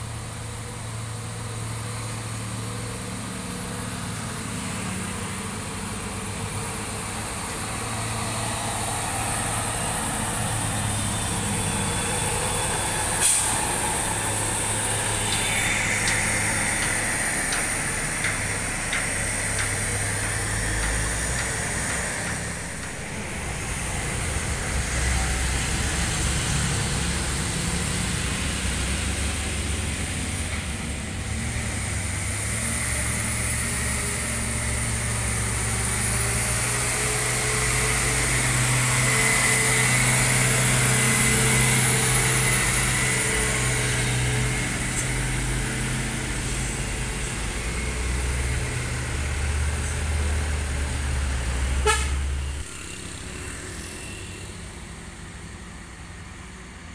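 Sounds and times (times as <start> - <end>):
diesel truck engines climbing: 0.0 - 56.9
road traffic passing: 0.0 - 56.9.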